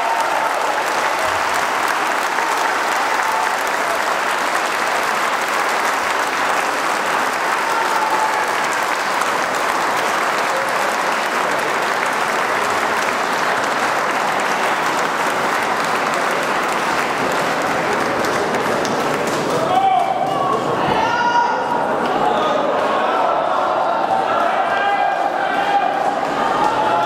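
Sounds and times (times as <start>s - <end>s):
audience applauding: 0.0s - 20.8s, 21.6s - 27.0s.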